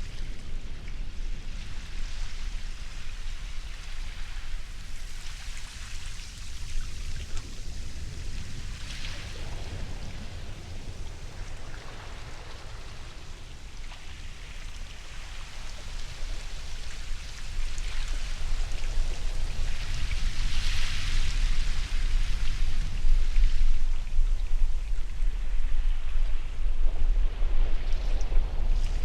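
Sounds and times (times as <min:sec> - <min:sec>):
low surf rumble: 0:00.0 - 0:29.0
ocean surf washing: 0:03.8 - 0:29.0.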